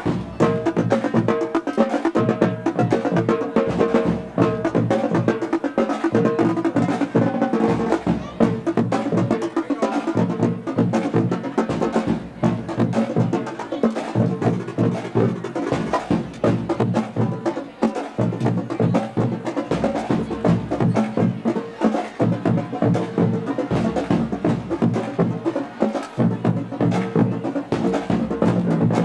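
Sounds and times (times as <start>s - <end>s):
drumline playing cadence: 0.0s - 29.0s.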